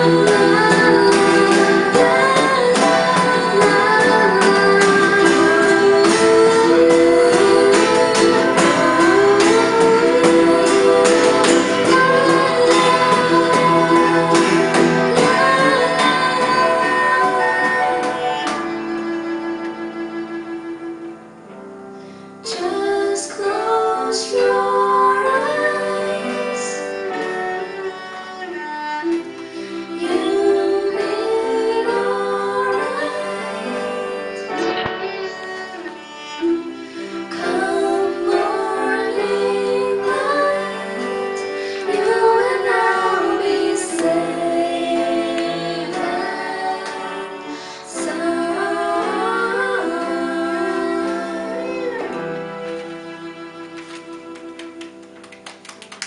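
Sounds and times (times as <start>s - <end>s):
women singing in harmony: 0.0s - 20.8s, 22.4s - 53.4s
acoustic guitar: 0.0s - 56.0s
cello: 0.0s - 56.0s.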